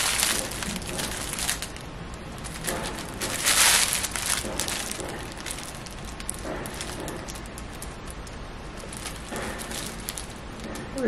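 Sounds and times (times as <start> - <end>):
hair rustling crackle: 0.0 - 11.0.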